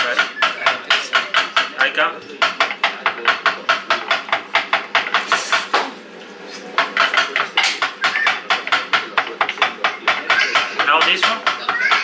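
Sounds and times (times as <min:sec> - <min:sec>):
kitchen utensil knocking: 0:00.0 - 0:05.9, 0:06.8 - 0:12.0.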